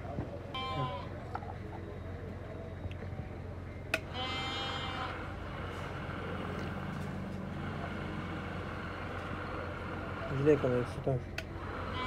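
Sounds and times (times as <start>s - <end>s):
constant background noise: 0.0s - 12.0s
steady low hum: 0.0s - 12.0s.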